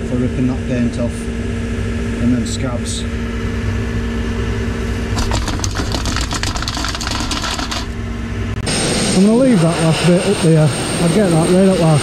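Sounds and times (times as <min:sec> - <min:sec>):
air compressor engine drone: 0:00.0 - 0:12.0.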